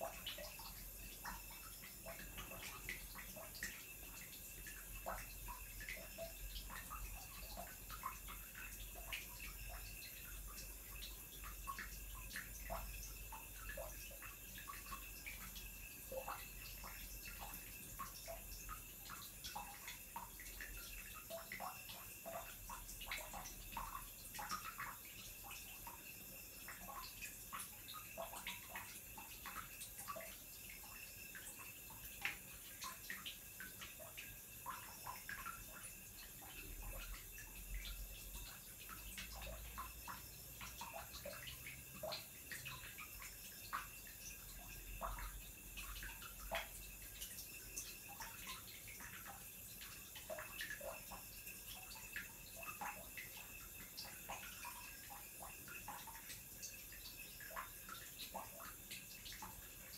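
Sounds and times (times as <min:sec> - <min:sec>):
low steady hiss: 0:00.0 - 0:59.9.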